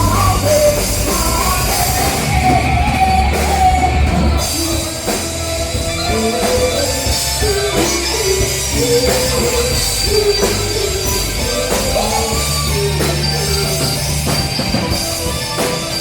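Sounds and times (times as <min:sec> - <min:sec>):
drum kit: 0:00.0 - 0:16.0
rock music: 0:00.0 - 0:16.0
wavering melodic lead line: 0:00.0 - 0:16.0.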